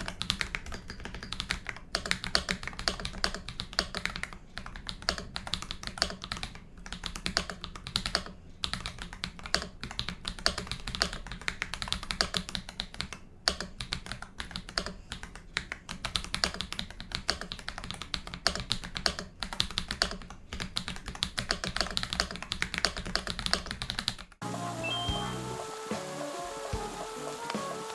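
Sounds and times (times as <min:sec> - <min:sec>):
fast typing on mechanical keyboard: 0:00.0 - 0:24.4.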